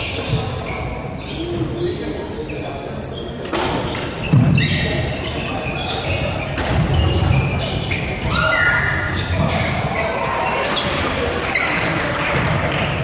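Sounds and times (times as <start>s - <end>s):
shoes squeaking on wooden floor: 0.0s - 12.0s.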